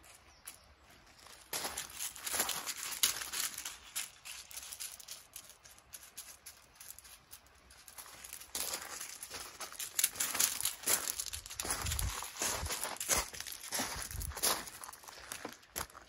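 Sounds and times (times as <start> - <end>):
footsteps on gravel: 0.0 - 16.0
dog's paws crunching on gravel: 0.2 - 16.0.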